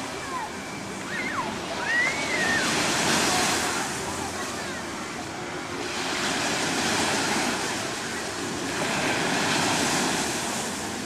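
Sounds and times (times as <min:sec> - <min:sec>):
waves breaking on sandy beach: 0:00.0 - 0:11.0.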